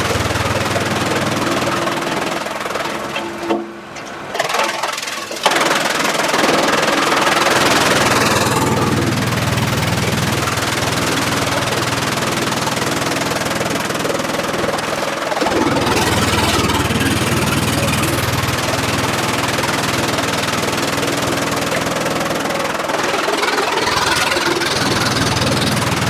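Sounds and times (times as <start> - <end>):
engine-driven machinery running: 0.0 - 26.0.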